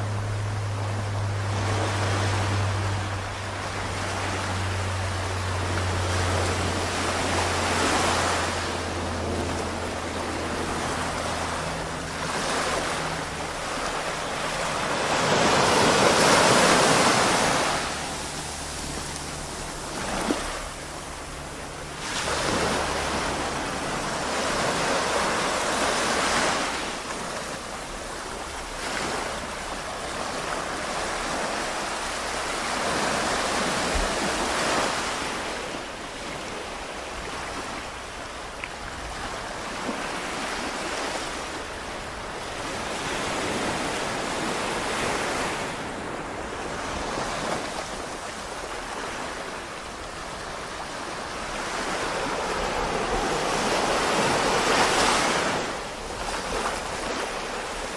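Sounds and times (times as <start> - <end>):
waves washing onto a beach: 0.0 - 57.9.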